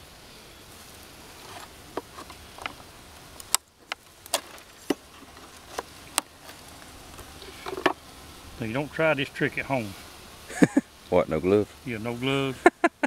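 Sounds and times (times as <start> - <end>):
bees humming: 0.0 - 13.0.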